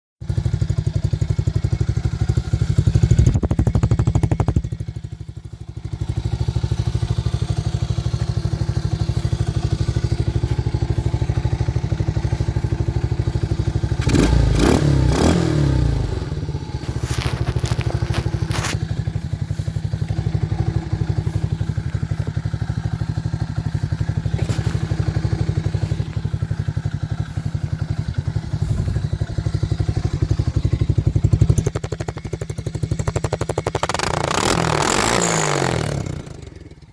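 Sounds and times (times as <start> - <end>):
quad bike engine revving: 0.2 - 36.9.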